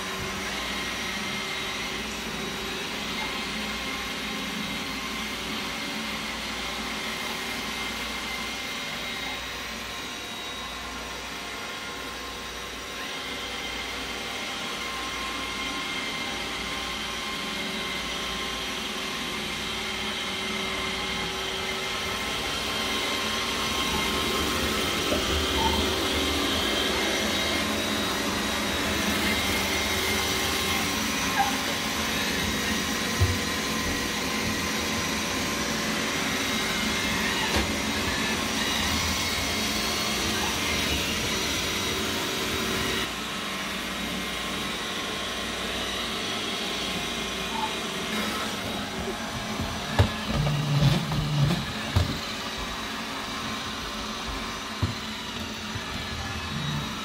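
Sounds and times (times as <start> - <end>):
robot vacuum whirring: 0.0 - 57.0.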